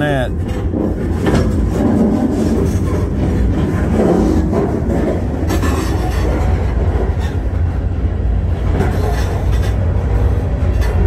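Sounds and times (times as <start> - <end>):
train wheels rumbling on rail: 0.0 - 11.0
faint rail clacks: 0.3 - 7.9, 8.5 - 11.0.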